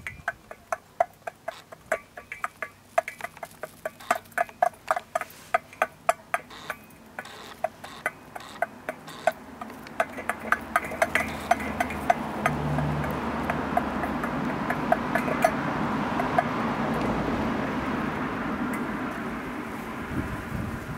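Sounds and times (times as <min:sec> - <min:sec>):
beaks tapping metal bowl: 0:00.0 - 0:17.4.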